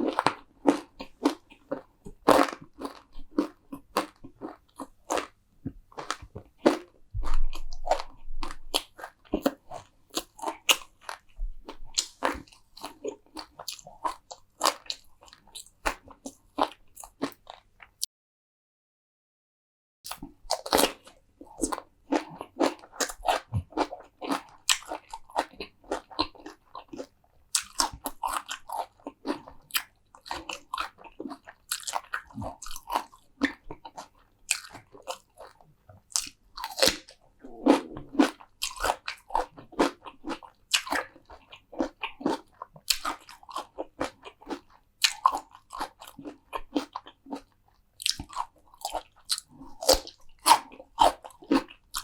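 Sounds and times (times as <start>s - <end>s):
crunchy biting and chewing: 0.0s - 17.6s, 20.1s - 52.0s.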